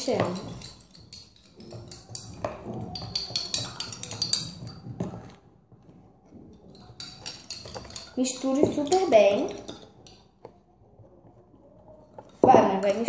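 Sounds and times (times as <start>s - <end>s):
spoons clinking against plastic tubs: 0.0s - 13.0s.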